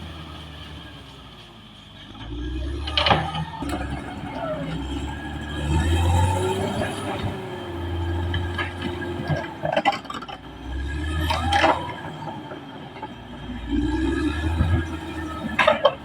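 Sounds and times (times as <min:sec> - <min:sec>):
bulldozer diesel engine under load: 0:00.0 - 0:16.0
steel tracks clanking and squealing: 0:00.0 - 0:16.0.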